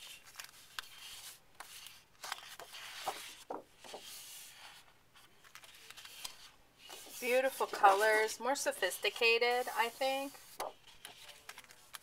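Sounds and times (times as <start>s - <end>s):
paper sheets rustling and sliding: 0.0s - 12.0s.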